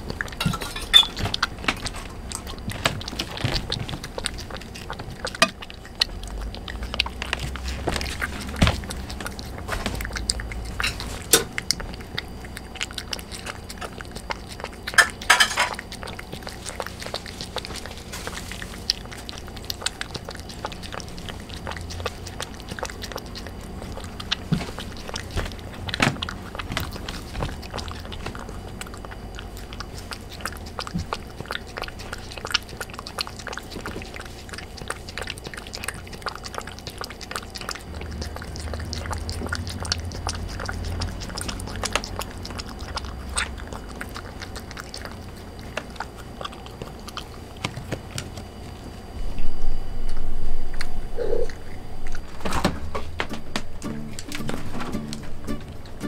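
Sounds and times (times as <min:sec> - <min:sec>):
cat chewing wet food: 0:00.0 - 0:49.2, 0:50.1 - 0:52.4, 0:53.0 - 0:56.0.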